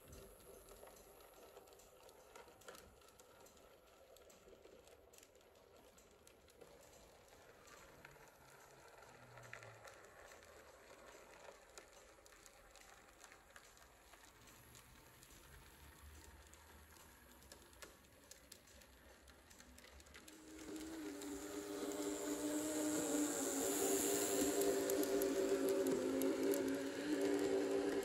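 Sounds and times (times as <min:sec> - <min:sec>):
model train clicking on track: 0:00.0 - 0:28.0.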